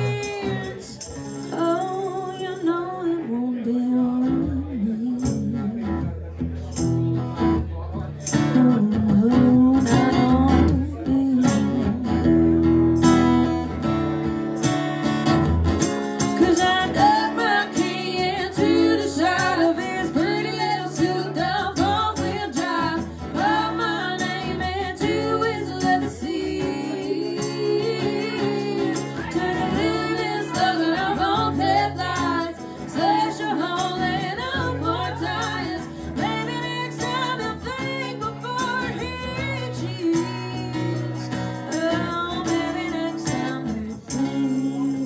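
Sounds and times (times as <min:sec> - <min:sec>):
strummed acoustic guitar: 0:00.0 - 0:45.0.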